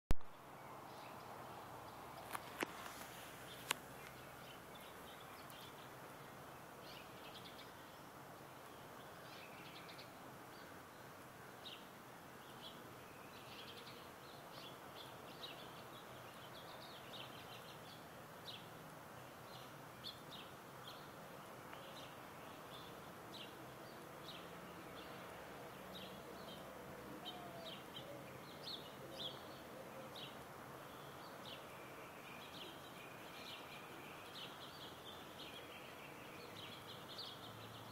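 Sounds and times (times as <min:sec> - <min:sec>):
steady background hiss: 0:00.2 - 0:37.9
wild birds chirping: 0:00.3 - 0:37.9.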